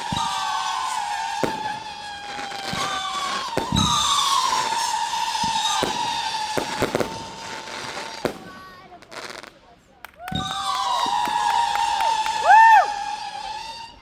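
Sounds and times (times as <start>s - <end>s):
fireworks bangs and pops: 0.0s - 14.0s
fireworks whistling: 0.0s - 14.0s.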